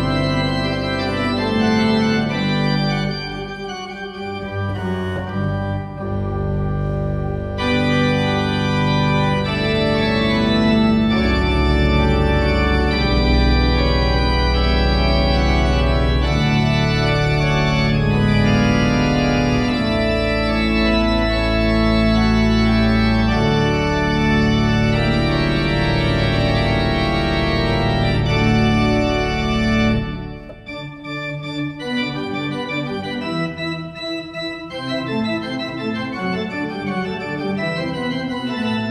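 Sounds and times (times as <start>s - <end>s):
pipe organ chords: 0.0s - 38.9s.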